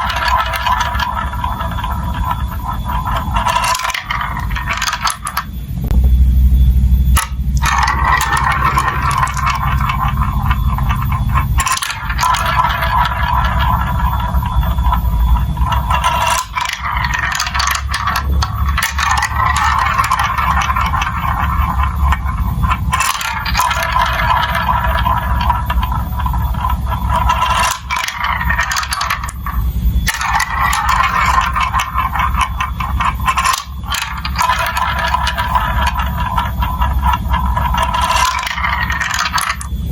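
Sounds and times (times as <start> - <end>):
marbles clicking and rattling: 0.0 - 39.9
marbles rolling on plastic track: 0.0 - 39.9.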